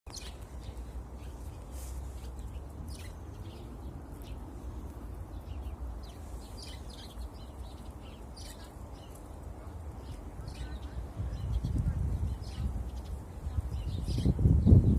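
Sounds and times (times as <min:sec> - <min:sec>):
sparrows chirping: 0:00.1 - 0:14.9.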